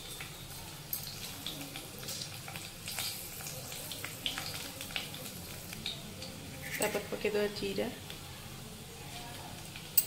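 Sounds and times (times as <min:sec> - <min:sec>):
hot oil sizzling: 0:00.0 - 0:10.0
oil popping and crackling: 0:00.0 - 0:10.0.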